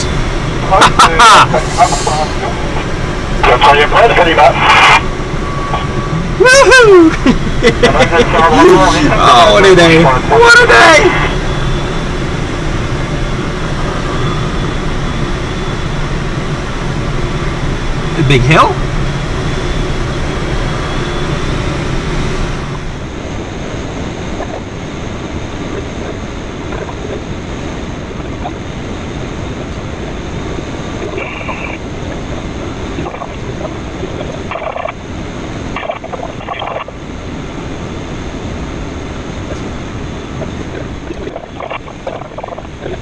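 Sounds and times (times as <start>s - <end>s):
rushing airflow in cockpit: 0.0s - 36.4s.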